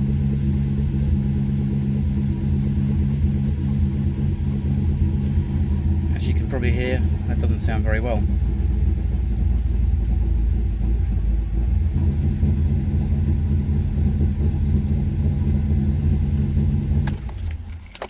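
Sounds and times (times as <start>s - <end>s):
car engine idling roughly: 0.2s - 18.0s.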